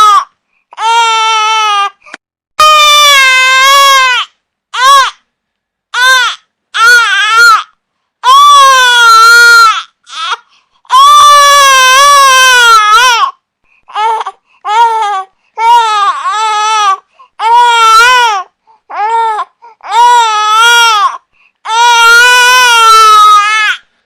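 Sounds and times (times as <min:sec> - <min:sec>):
infant crying: 0:00.0 - 0:02.0, 0:02.6 - 0:05.2, 0:06.0 - 0:23.8.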